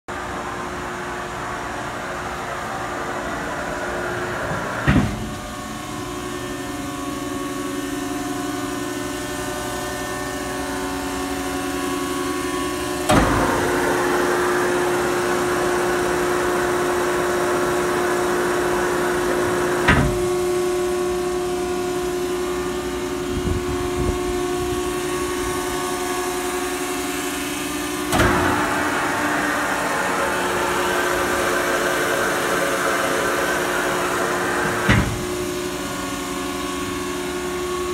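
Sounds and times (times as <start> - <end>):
baler hydraulic unit humming: 0.1 - 37.9.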